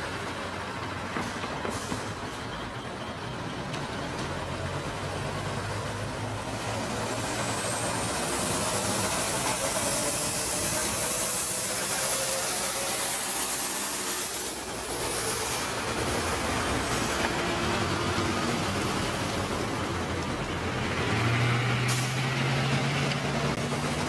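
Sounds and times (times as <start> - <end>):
bus engine rumbling: 0.0 - 24.0
traffic rushing hiss: 0.0 - 24.0.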